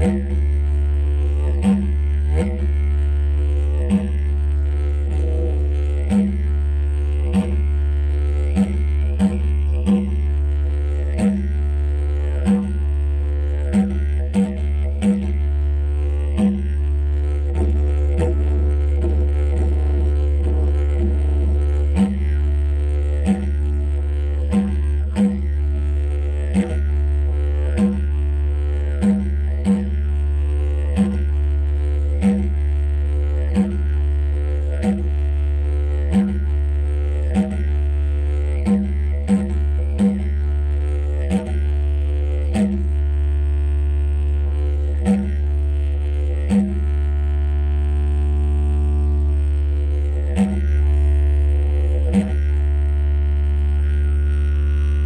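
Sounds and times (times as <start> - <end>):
didgeridoo drone: 0.0 - 55.0.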